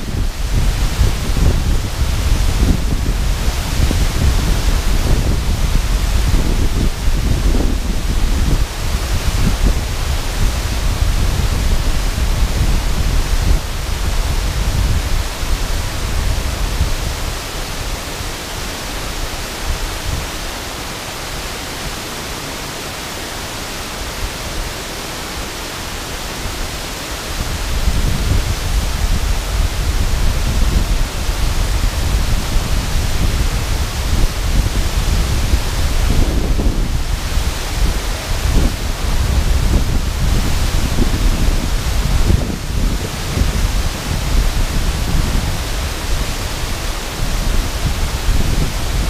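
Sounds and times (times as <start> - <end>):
waterfall pouring onto rocks: 0.0 - 49.0.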